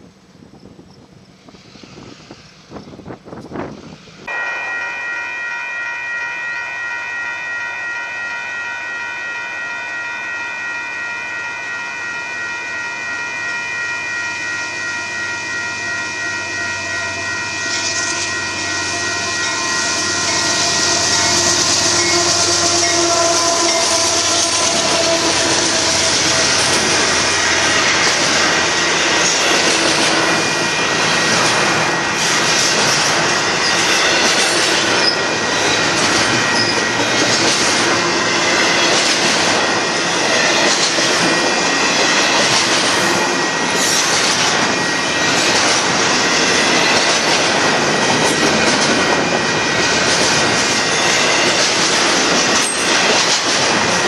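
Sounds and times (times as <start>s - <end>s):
train wheel and rail noise: 0.0s - 54.0s
railroad crossing bell ringing: 4.2s - 54.0s.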